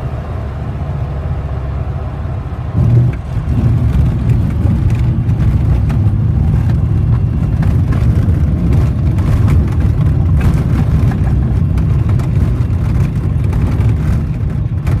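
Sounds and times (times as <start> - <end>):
propeller aircraft engine rumble: 0.0 - 15.0.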